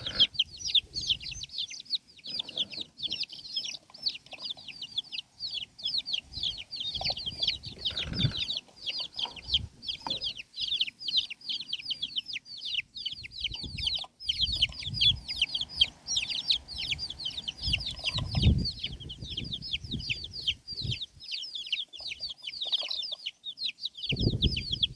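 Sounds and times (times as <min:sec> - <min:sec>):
chicks peeping: 0:00.0 - 0:24.9.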